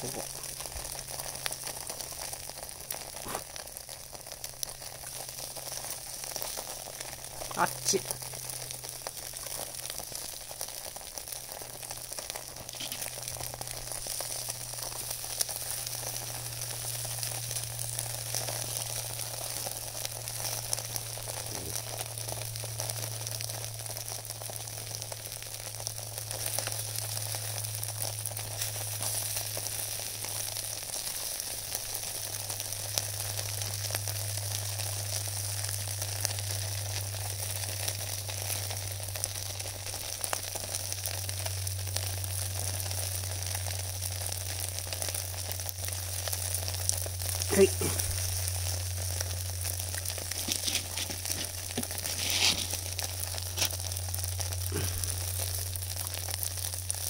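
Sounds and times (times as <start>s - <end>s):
low steady hum: 0.0s - 57.0s
vegetables sizzling in a tray: 0.0s - 57.0s.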